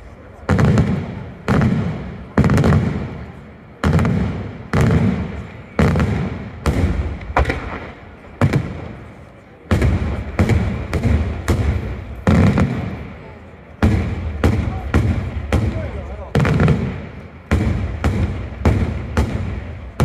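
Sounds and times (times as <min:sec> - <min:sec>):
fireworks bursting with echo: 0:00.0 - 0:20.0.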